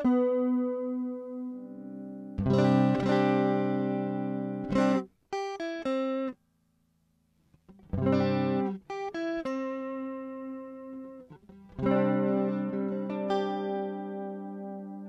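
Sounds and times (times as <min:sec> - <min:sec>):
electric guitar with chorus: 0:00.0 - 0:06.4, 0:07.5 - 0:15.0.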